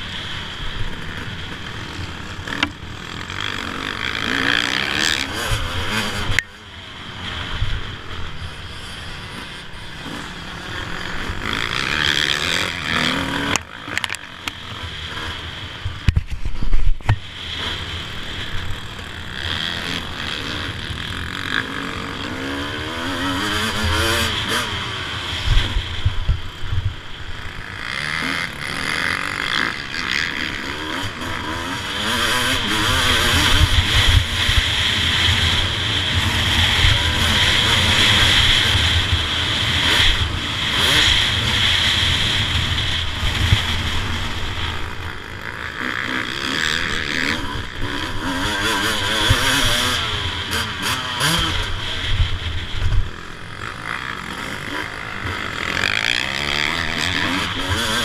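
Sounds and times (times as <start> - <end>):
motocross engine revving: 0.0 - 16.1, 17.0 - 58.0.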